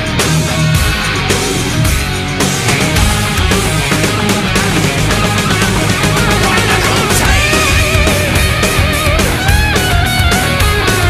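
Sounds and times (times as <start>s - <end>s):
heavy metal music: 0.0s - 11.0s.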